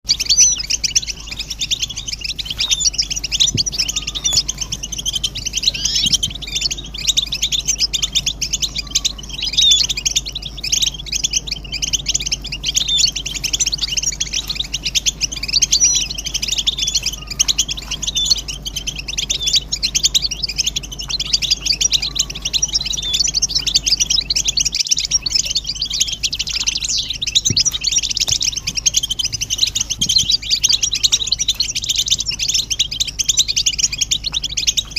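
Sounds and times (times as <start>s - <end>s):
goldfinches twittering: 0.0s - 34.9s.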